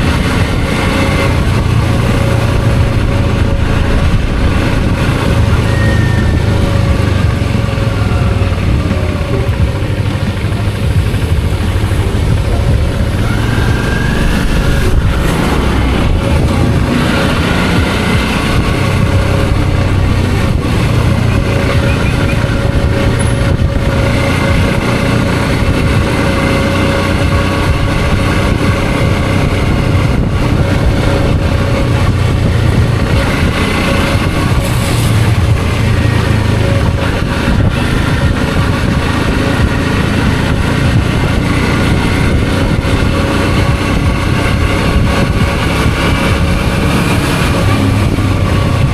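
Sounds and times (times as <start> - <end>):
motorcycle engine running: 0.0 - 48.9
road noise: 0.0 - 48.9
wind noise: 0.0 - 48.9.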